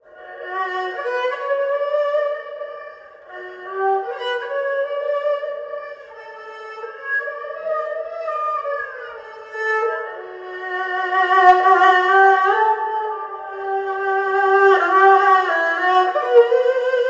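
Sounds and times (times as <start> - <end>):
erhu playing slow melody: 0.0 - 17.0.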